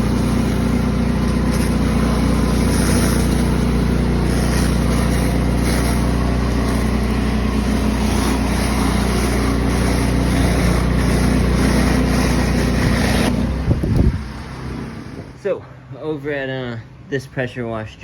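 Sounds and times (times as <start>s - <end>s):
loud even water hiss: 0.0s - 15.4s
pressure washer engine hum: 0.0s - 16.2s.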